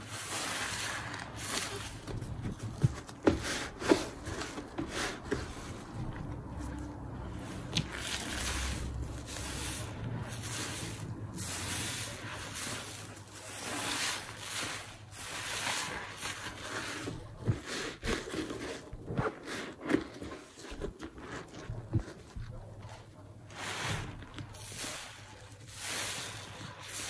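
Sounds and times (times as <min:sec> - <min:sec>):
sponges squelching in suds: 0:00.0 - 0:27.0.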